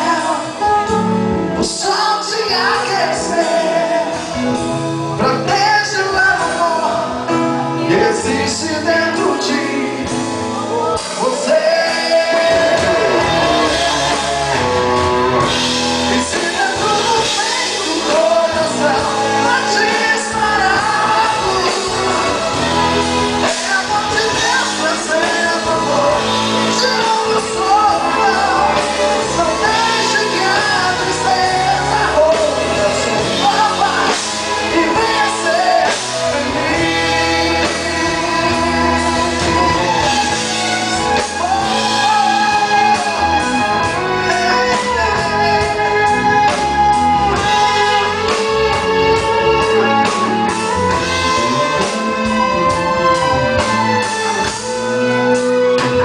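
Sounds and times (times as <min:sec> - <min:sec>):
bass guitar: 0:00.0 - 0:56.0
drum kit: 0:00.0 - 0:56.0
electric guitar: 0:00.0 - 0:56.0
keyboard: 0:00.0 - 0:56.0
person singing: 0:00.0 - 0:56.0.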